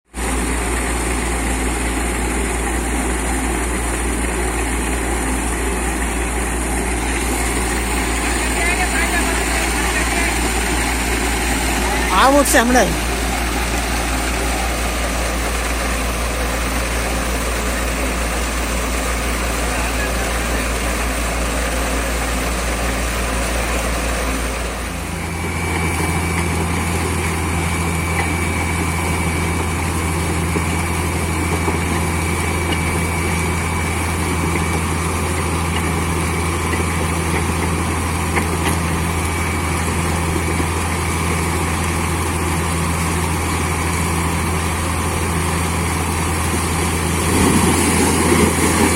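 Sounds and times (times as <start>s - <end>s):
drilling rig engine drone: 0.1s - 48.9s.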